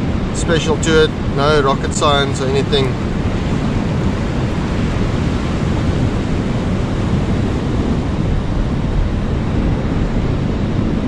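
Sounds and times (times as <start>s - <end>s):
sea surf washing: 0.0s - 11.0s
wind rumbling on microphone: 0.0s - 11.0s.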